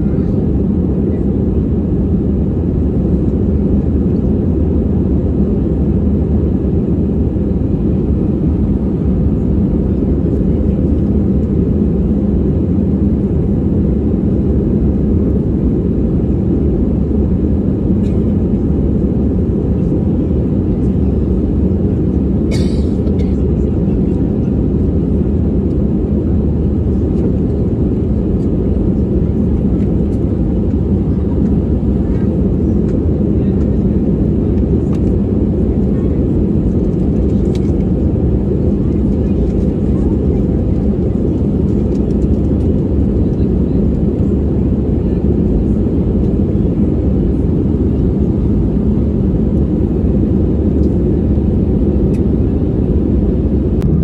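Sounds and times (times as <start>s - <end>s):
jet engines and rushing air rumble: 0.0s - 54.0s.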